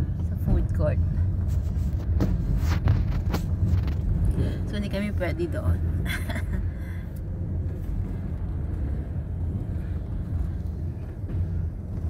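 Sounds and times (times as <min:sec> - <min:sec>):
car engine drone: 0:00.0 - 0:12.0
road rumble: 0:00.0 - 0:12.0.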